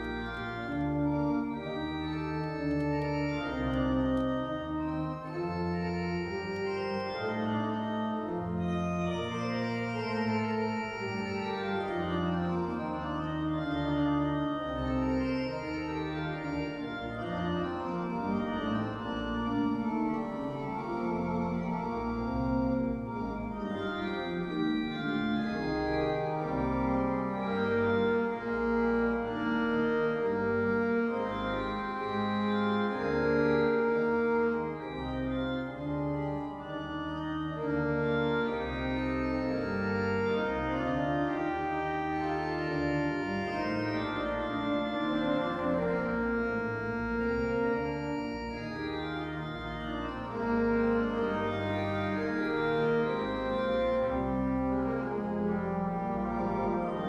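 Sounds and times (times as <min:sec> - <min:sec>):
church pipe organ chords: 0:00.0 - 0:57.0.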